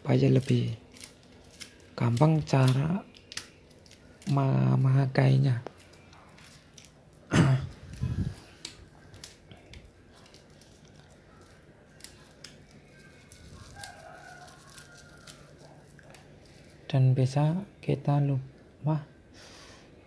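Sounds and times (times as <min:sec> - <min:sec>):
plastic bag rustling: 0:00.0 - 0:16.9.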